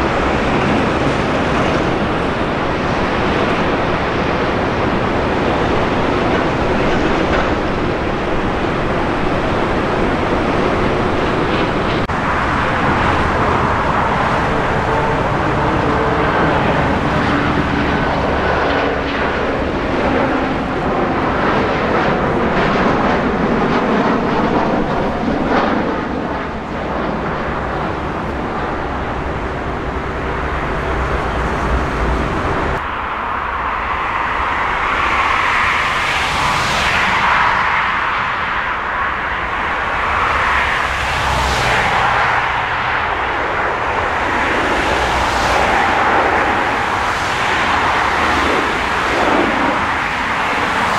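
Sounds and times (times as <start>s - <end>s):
airliner engines running: 0.0s - 50.9s.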